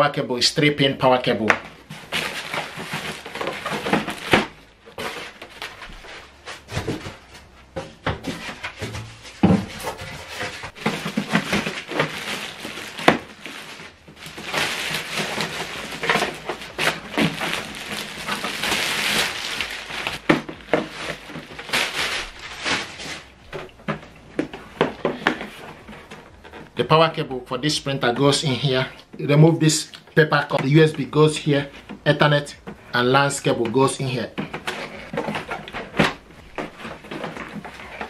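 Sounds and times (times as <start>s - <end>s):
plastic bag crinkling: 1.6s - 7.6s, 8.4s - 26.8s, 27.6s - 38.0s
polystyrene scraping: 1.7s - 38.0s.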